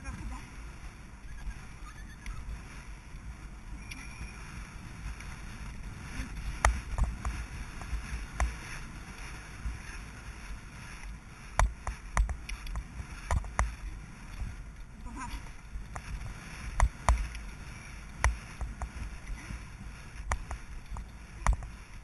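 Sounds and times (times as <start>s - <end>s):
rushing air: 2.4s - 22.0s.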